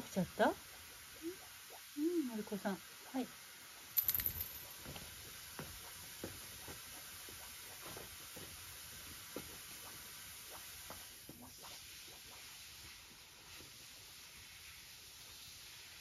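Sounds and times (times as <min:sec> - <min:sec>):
light rain hiss: 0:00.0 - 0:16.0.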